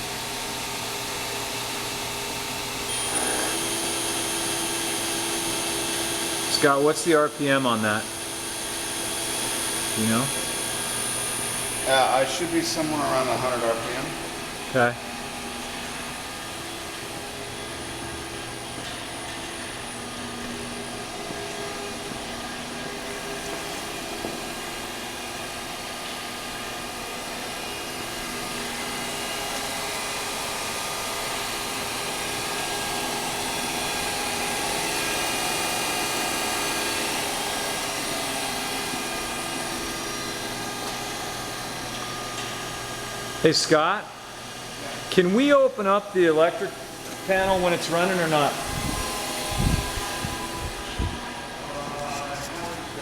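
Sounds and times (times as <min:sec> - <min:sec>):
grinding machine whirring: 0:00.0 - 0:53.0.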